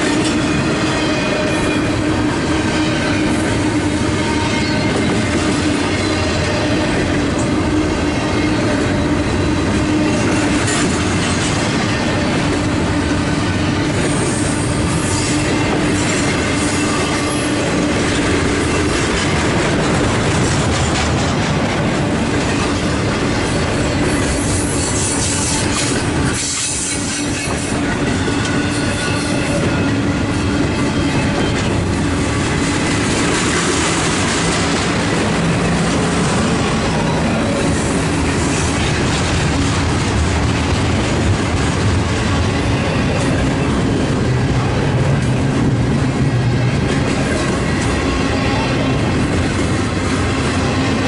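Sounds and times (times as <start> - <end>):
freight train wheels rumbling on rails: 0.0 - 51.0.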